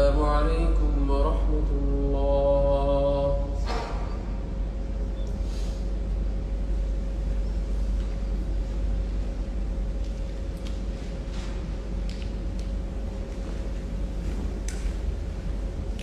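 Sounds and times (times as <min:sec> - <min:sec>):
low rumble and hiss: 0:00.0 - 0:16.0.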